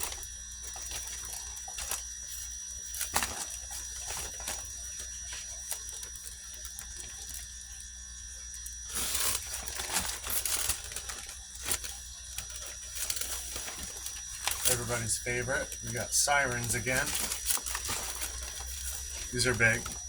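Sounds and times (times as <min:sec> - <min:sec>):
plastic bags crinkling: 0:00.0 - 0:07.9, 0:08.6 - 0:20.0.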